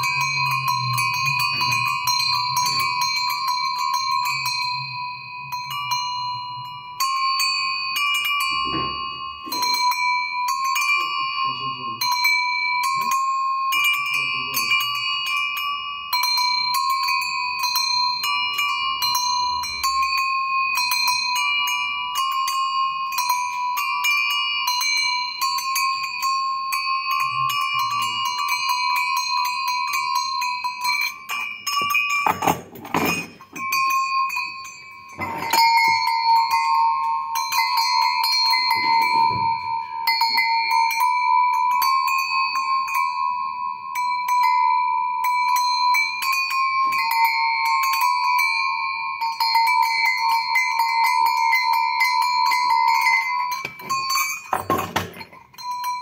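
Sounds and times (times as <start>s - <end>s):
metal bells jangling: 0.0s - 56.0s.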